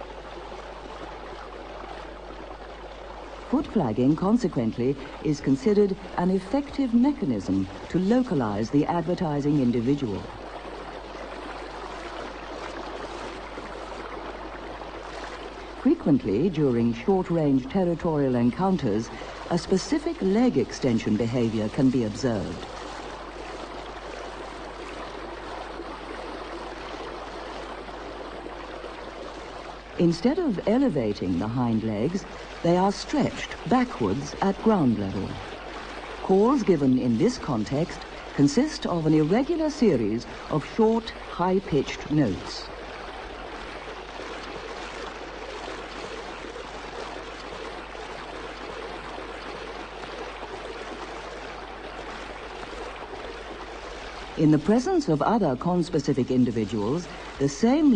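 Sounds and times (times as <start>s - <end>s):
stream water rushing: 0.0s - 57.9s.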